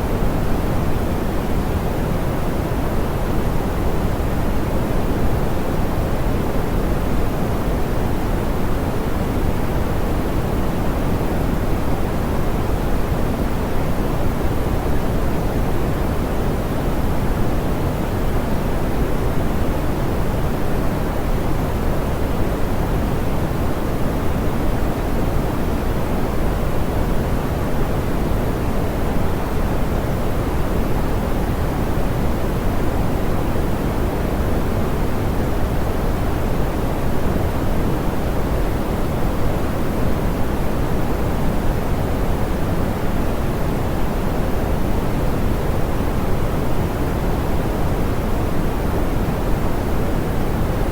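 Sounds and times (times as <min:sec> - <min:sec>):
soft pink noise hiss: 0:00.0 - 0:50.9.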